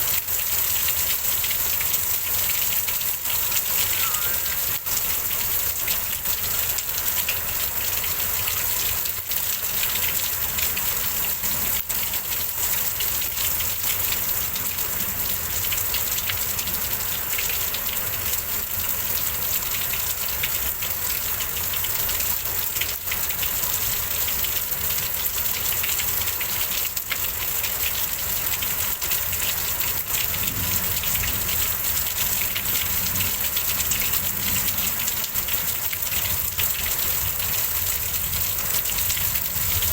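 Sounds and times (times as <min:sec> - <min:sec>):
rain pouring: 0:00.0 - 0:39.9.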